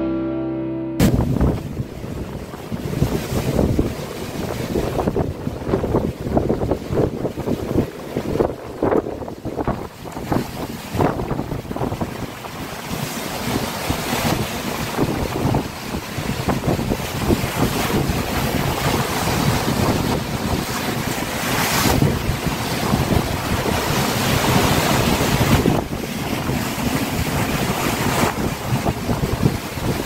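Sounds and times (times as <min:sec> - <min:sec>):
sea surf: 0:00.0 - 0:30.0
wind buffeting microphone: 0:01.0 - 0:30.0.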